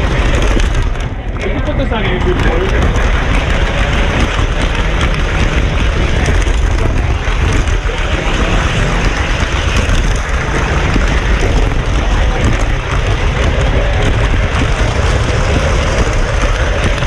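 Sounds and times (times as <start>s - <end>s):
model train rumble and whir: 0.0s - 17.0s.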